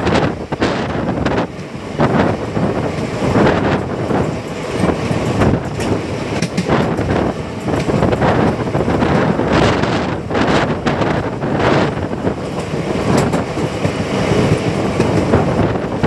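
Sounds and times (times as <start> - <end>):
train wheels rumbling on rails: 0.0 - 16.0
wind buffeting microphone: 0.0 - 16.0.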